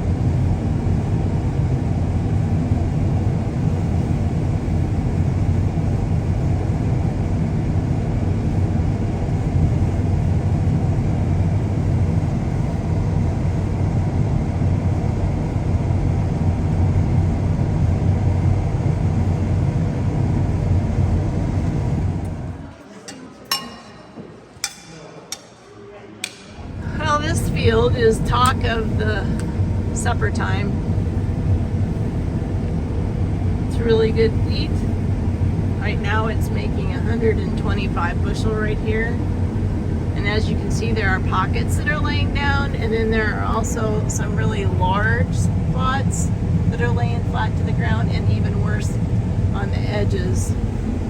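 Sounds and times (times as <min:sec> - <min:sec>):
combine harvester drone: 0:00.0 - 0:22.8, 0:26.6 - 0:51.0.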